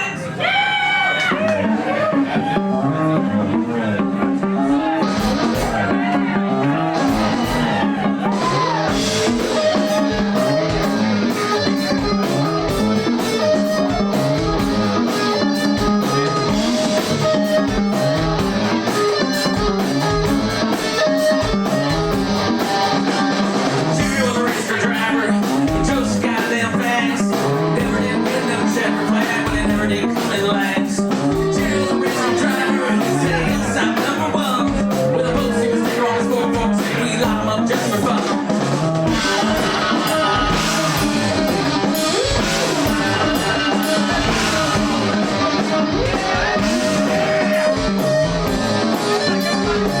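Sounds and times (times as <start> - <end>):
rock music with guitar riff: 1.3 - 50.0.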